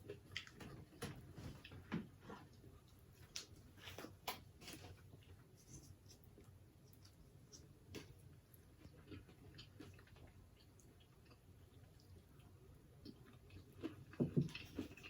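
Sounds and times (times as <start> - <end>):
chewing and mouth sounds: 0.0 - 4.4, 5.2 - 15.0.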